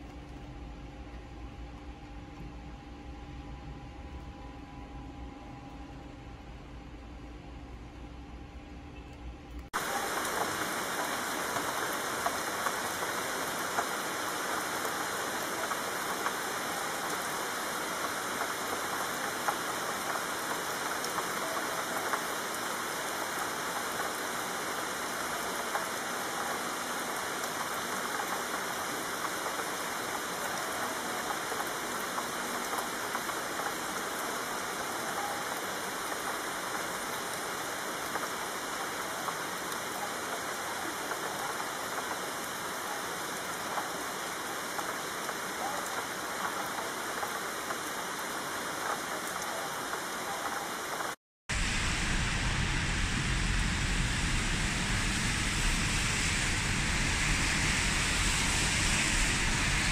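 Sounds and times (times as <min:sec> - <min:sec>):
steady rain falling: 0:00.0 - 0:04.8, 0:05.5 - 0:59.9.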